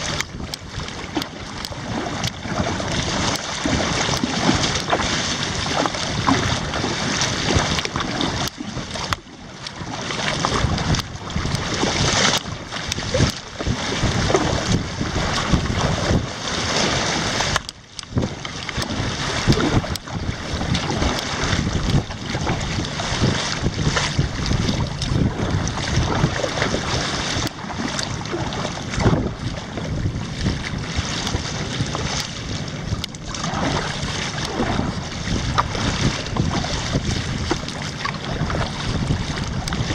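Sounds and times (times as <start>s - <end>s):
water splashing around kayak: 0.0s - 39.9s
wind buffeting microphone: 0.0s - 39.9s.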